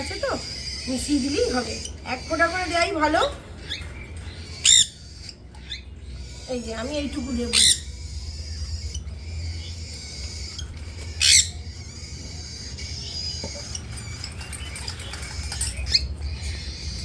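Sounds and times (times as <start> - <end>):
parrot squawking: 0.0 - 14.5
birds chirping: 0.0 - 17.0
steady low hum: 0.0 - 17.0.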